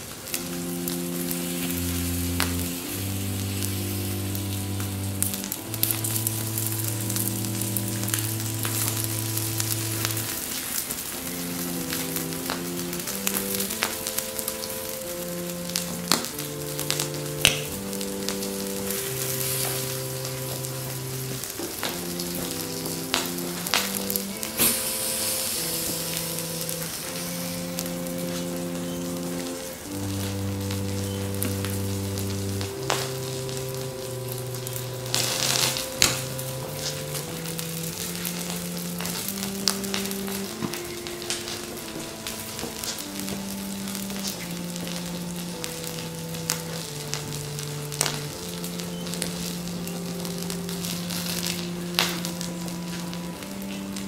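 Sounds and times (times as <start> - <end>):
burning plastic sizzling and crackling: 0.0 - 54.0
slow background music: 0.0 - 54.0
sharp pops: 0.3 - 54.0.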